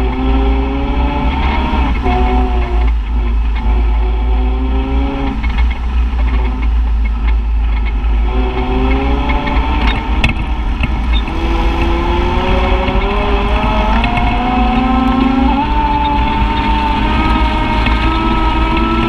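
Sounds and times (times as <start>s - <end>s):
utility vehicle engine rumbling: 0.0s - 19.0s.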